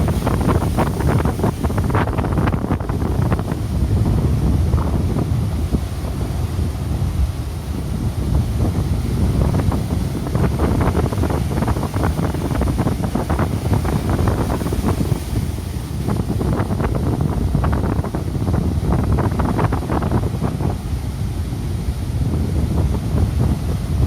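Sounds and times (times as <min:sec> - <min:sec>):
rough sea surf breaking: 0:00.0 - 0:24.0
strong wind buffeting microphone: 0:00.0 - 0:24.0.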